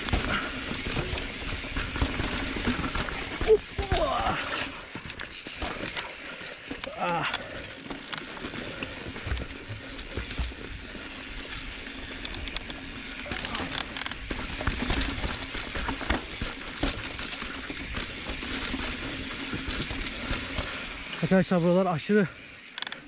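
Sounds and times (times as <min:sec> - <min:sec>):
bike knocking and rattling: 0:00.0 - 0:23.0
bike tyres crunching over dirt: 0:00.0 - 0:23.0.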